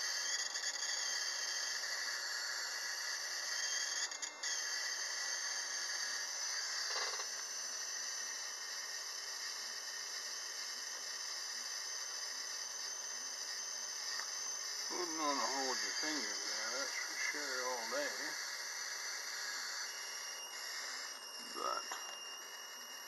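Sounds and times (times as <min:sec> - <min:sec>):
ignition coil sparking buzz: 0:00.0 - 0:23.0.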